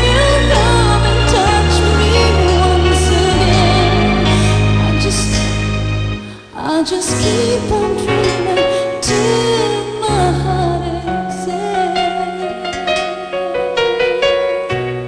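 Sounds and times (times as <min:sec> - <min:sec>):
woman singing pop ballad: 0:00.0 - 0:13.8
instrumental accompaniment with bass: 0:00.0 - 0:15.0.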